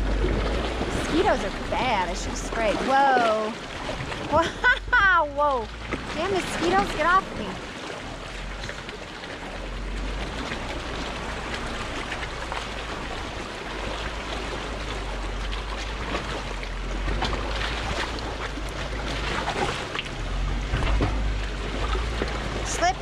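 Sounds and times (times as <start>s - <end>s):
low steady engine rumble: 0.0s - 23.0s
water splashing around tyres: 0.0s - 23.0s.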